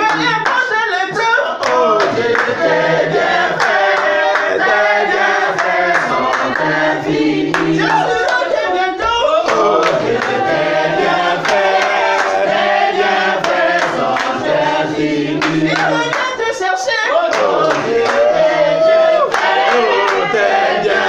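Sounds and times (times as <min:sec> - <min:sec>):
hand clapping: 0:00.0 - 0:00.8, 0:01.6 - 0:10.6, 0:11.2 - 0:16.5, 0:17.3 - 0:18.3, 0:19.3 - 0:20.3
group singing gospel: 0:00.0 - 0:21.0.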